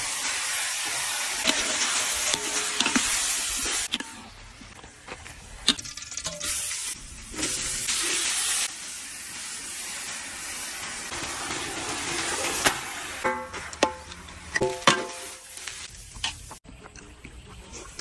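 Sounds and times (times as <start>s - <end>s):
chicken sizzling in hot oil: 0.0s - 3.9s, 6.0s - 16.6s.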